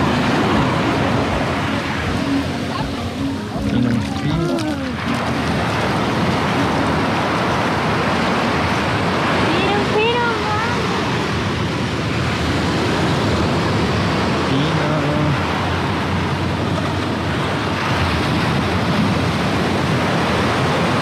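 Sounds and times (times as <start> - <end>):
sea waves breaking: 0.0 - 21.0.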